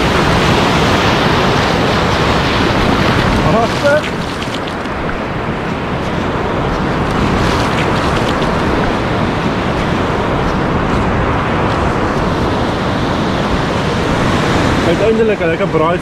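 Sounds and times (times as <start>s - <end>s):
surf washing up beach: 0.0s - 16.0s
wind buffeting microphone: 0.0s - 16.0s.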